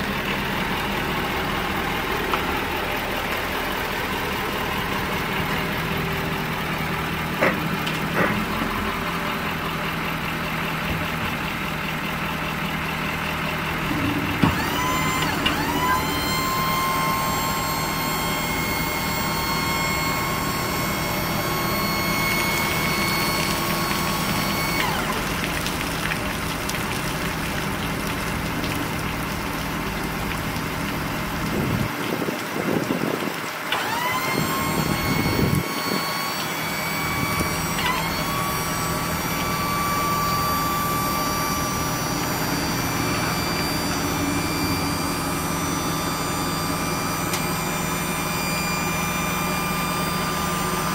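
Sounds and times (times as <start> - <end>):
hydraulic pump whining: 0.0 - 32.0, 32.9 - 50.9
truck engine idling: 0.0 - 32.7, 33.3 - 50.9.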